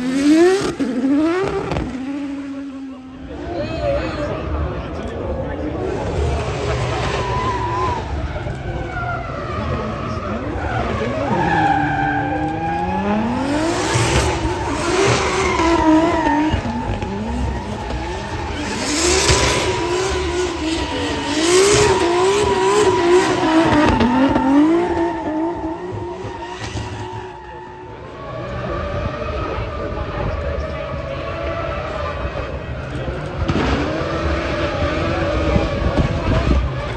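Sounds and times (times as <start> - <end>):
car engine revving hard: 0.0 - 36.9.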